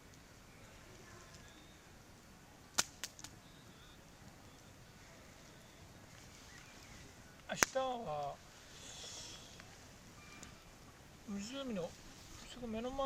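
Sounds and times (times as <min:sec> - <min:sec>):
campfire cracks: 0:00.0 - 0:13.0
faint steady background noise: 0:00.0 - 0:13.0.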